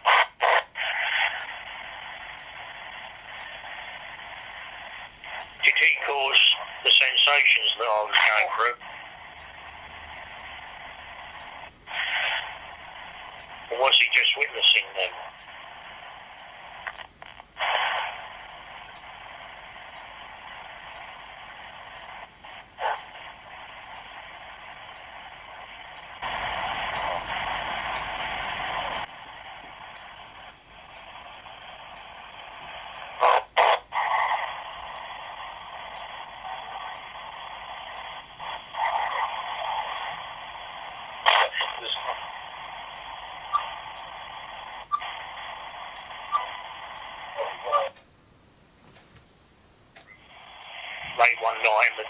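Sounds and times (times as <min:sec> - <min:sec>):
static hiss from small speaker: 0:00.0 - 0:52.0.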